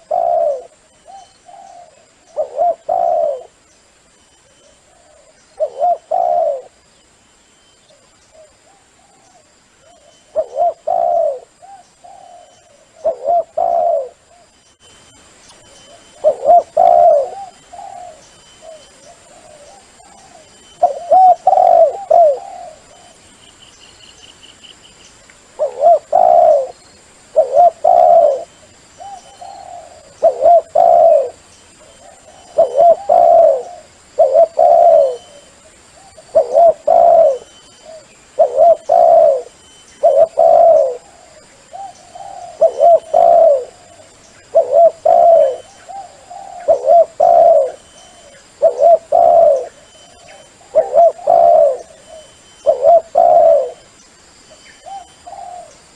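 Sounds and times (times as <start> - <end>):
dove cooing: 0.0 - 3.6, 4.7 - 6.8, 8.3 - 14.5, 15.9 - 23.2, 25.5 - 53.9, 54.8 - 55.9.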